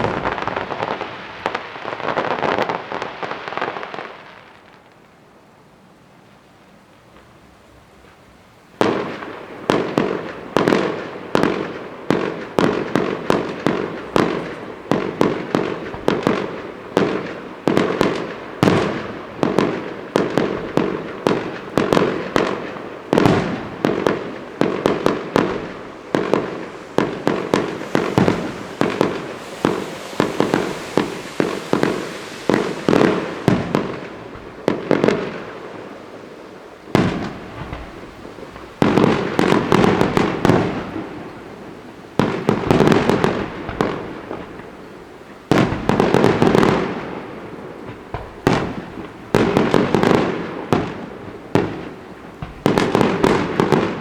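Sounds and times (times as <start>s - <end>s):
fireworks bursting: 0.0s - 5.2s, 8.0s - 54.0s
hissing crackle: 6.3s - 54.0s.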